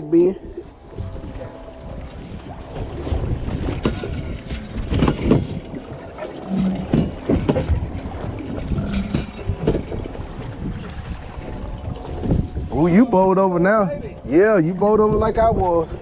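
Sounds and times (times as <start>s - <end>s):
low boat rumble: 0.0s - 16.0s
wind buffeting microphone: 0.0s - 16.0s.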